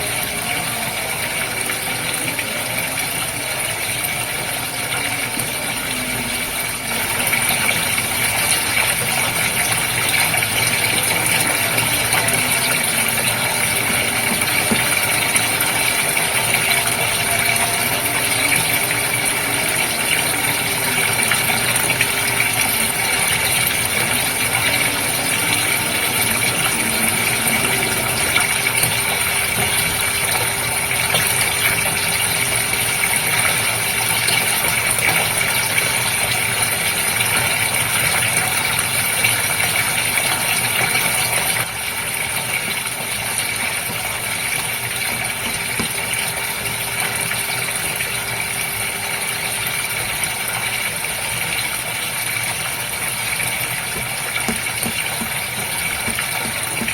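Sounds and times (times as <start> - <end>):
aquarium water bubbling: 0.0 - 56.9.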